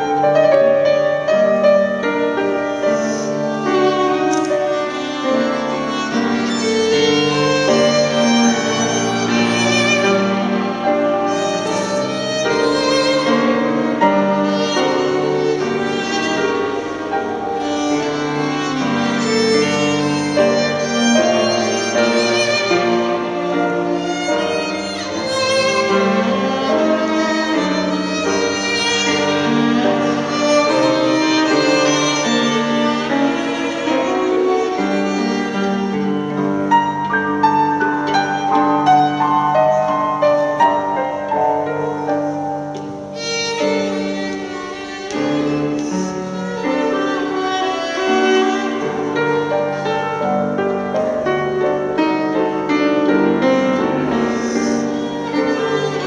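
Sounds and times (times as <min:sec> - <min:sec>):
grand piano accompaniment: 0:00.0 - 0:56.0
violin slow melody: 0:00.0 - 0:56.0.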